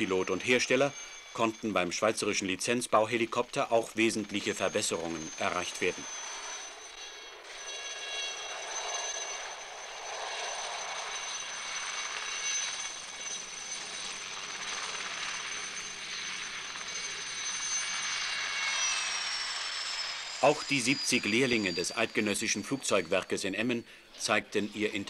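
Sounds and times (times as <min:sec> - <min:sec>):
helicopter rotor rushing: 0:00.0 - 0:25.0
helicopter turbine whining: 0:00.0 - 0:25.0.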